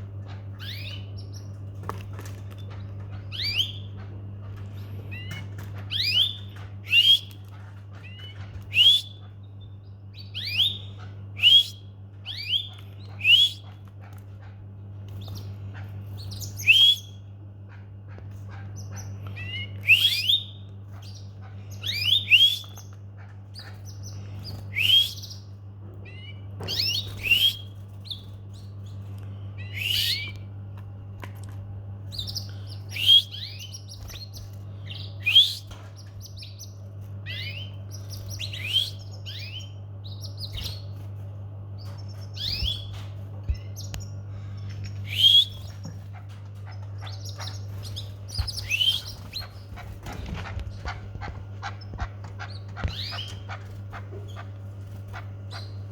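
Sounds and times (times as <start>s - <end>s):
canary chirping: 0.0s - 30.6s, 32.0s - 55.9s
steady low hum: 0.0s - 55.9s.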